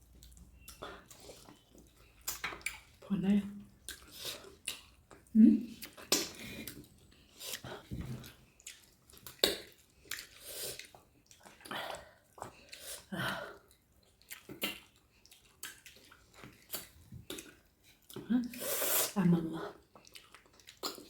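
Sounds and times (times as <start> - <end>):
wet chewing and mouth smacks: 0.0 - 18.8, 19.7 - 21.0.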